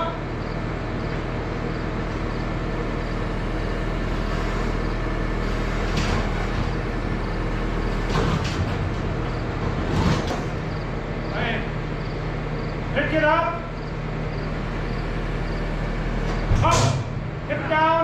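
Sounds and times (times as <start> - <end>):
skid loader engine running: 0.0 - 18.0.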